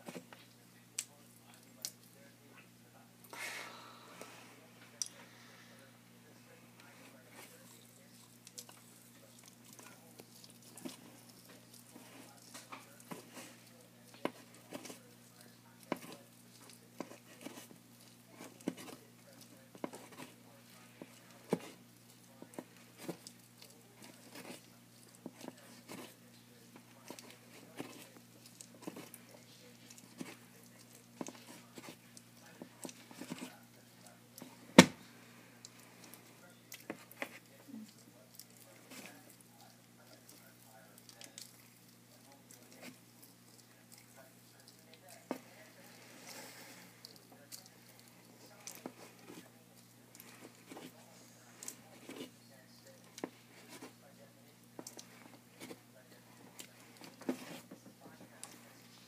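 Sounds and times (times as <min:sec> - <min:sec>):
low steady hum: 0:00.0 - 0:59.0
tortoise chewing food: 0:00.0 - 0:59.0.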